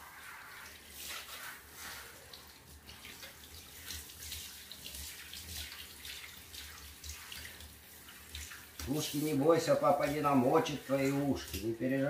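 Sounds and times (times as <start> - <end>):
shower water spraying on dog: 0.0 - 12.0
water splashing: 0.0 - 12.0.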